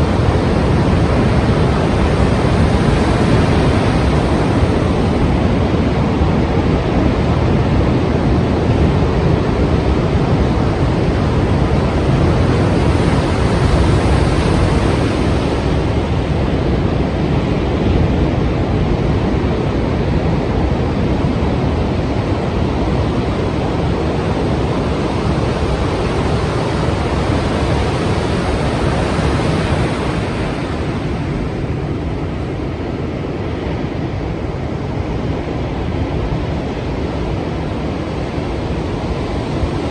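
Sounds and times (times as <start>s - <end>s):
sea waves and surf: 0.0s - 39.9s.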